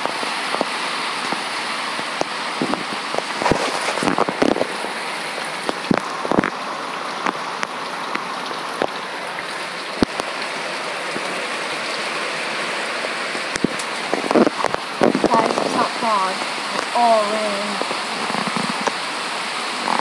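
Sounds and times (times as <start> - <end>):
heavy rain pouring: 0.0 - 20.0
raindrops tapping nearby: 0.0 - 20.0.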